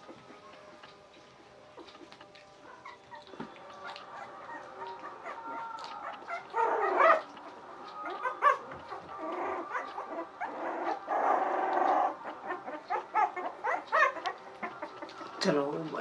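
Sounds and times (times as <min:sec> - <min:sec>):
puppies whining and yelping: 0:00.0 - 0:16.0.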